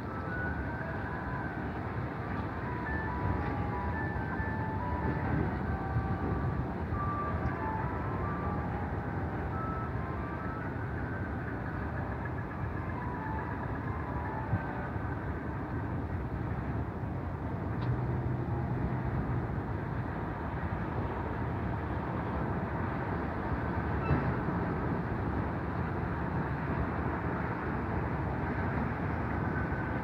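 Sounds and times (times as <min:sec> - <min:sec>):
construction machinery rumble: 0:00.0 - 0:30.0
distant road traffic: 0:00.0 - 0:30.0.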